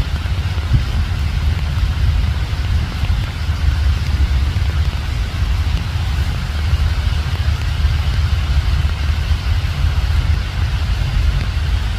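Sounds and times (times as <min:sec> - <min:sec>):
low rumble: 0:00.0 - 0:11.9
steady rain: 0:00.0 - 0:11.9.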